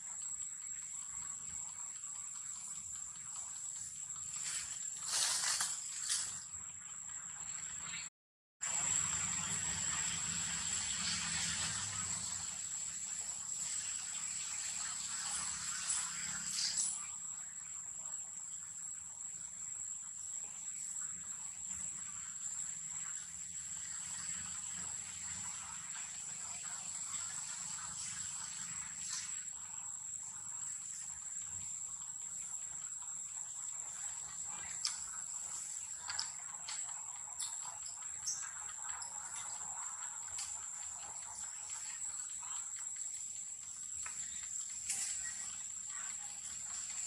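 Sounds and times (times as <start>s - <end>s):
insects droning: 0.0s - 8.0s, 8.6s - 47.0s.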